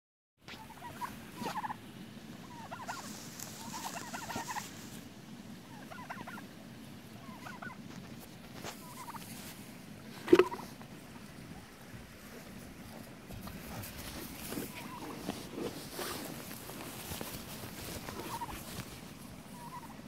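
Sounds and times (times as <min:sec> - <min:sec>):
turkeys gobbling: 0:00.5 - 0:08.0, 0:08.6 - 0:09.5, 0:10.2 - 0:11.8, 0:12.4 - 0:20.0.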